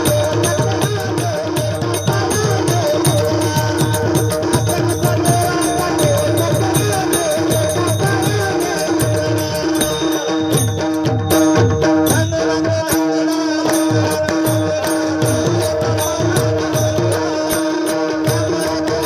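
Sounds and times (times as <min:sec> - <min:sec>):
tabla fast rhythm: 0:00.0 - 0:19.0.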